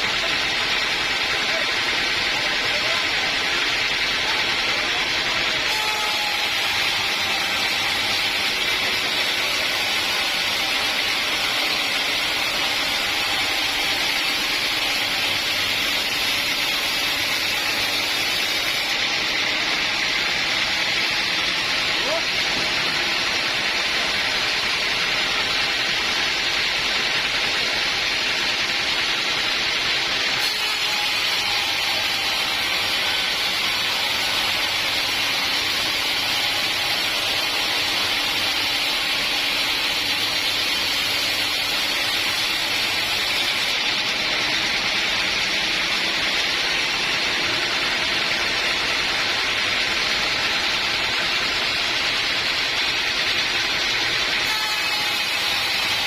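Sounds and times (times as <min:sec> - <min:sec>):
sawmill running: 0:00.0 - 0:56.0.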